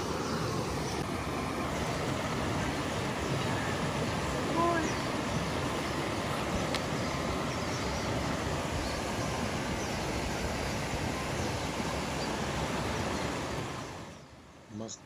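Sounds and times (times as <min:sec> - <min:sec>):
river rushing over rocks: 0:00.0 - 0:14.2.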